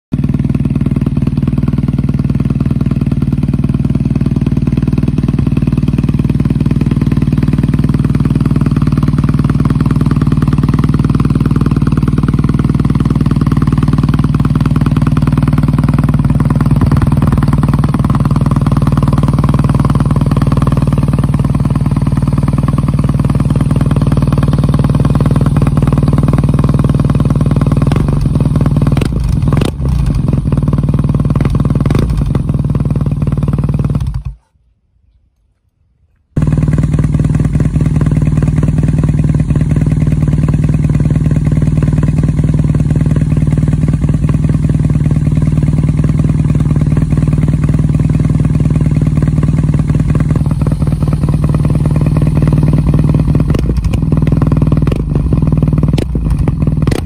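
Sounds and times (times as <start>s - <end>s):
motorcycle engine idling: 0.1s - 34.5s, 36.4s - 57.0s.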